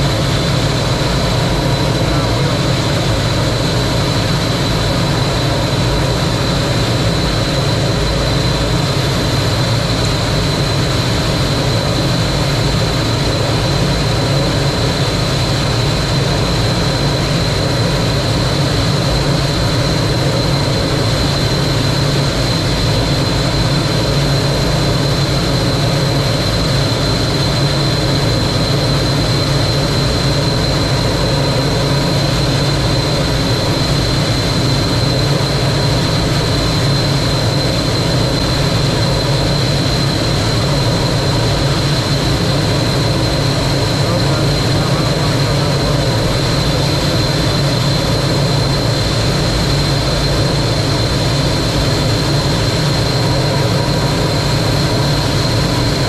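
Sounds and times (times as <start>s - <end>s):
jet engine running: 0.0s - 56.0s.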